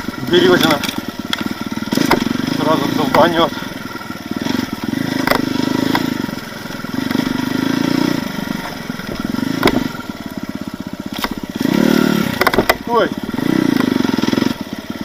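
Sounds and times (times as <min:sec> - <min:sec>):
knocks and clatters of bike: 0:00.0 - 0:15.0
off-road motorcycle engine revving: 0:00.0 - 0:15.0.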